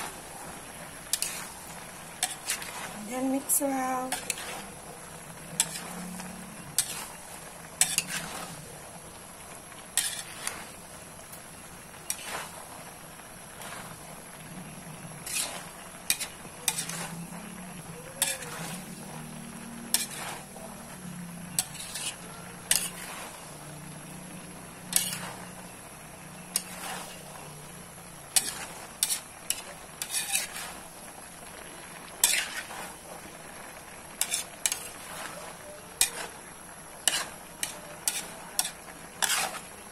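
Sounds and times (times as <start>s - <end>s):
low sizzle: 0.0s - 39.9s
metal spatula scraping a wok: 0.0s - 39.9s.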